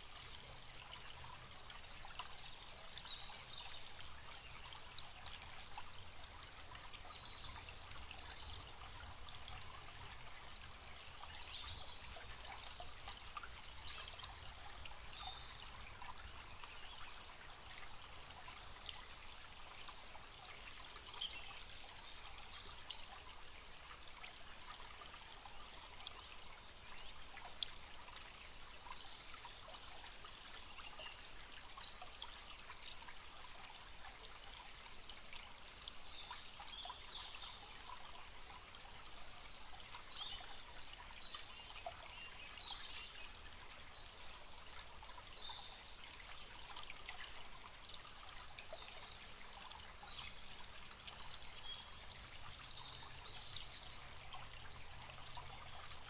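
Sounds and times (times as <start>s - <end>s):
stream trickling: 0.0s - 56.0s.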